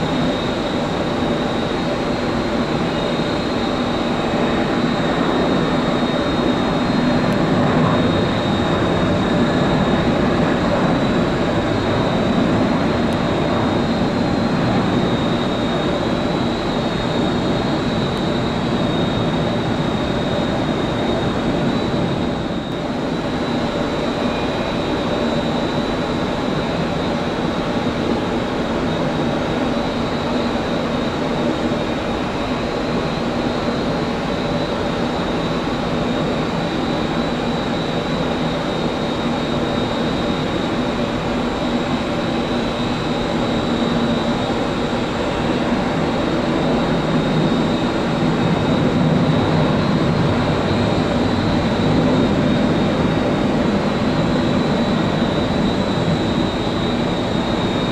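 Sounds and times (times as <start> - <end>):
jet engines roaring with whine: 0.0 - 57.9.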